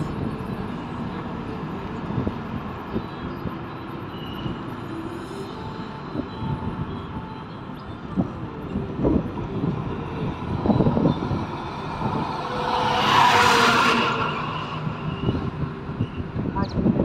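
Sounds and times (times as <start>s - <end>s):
car road and wind noise: 0.0s - 17.0s
truck passing rush: 0.0s - 17.0s.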